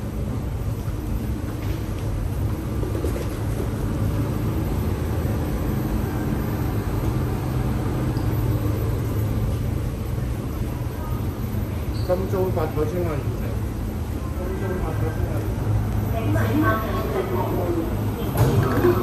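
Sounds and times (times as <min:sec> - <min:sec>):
train carriage rumble and hum: 0:00.0 - 0:19.0.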